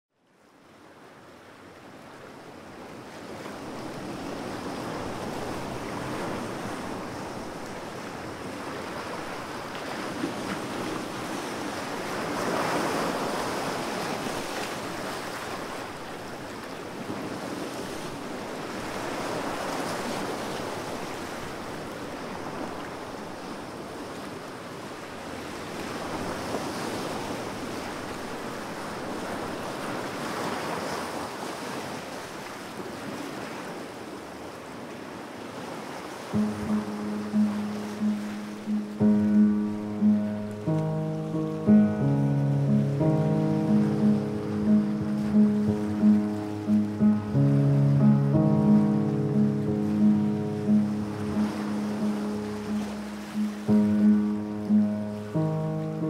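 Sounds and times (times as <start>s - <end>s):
sea waves washing onto shore: 1.0s - 56.0s.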